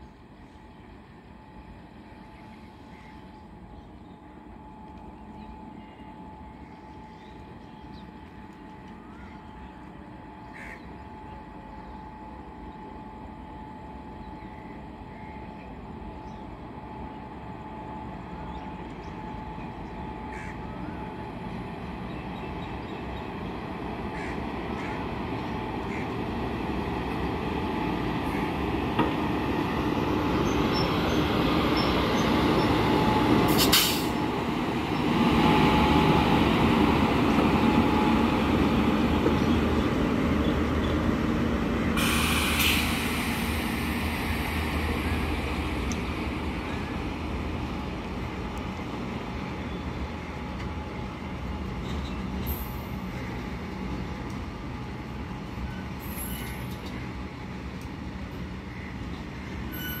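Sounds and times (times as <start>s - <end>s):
freight train wagons rumbling: 0.0s - 60.0s.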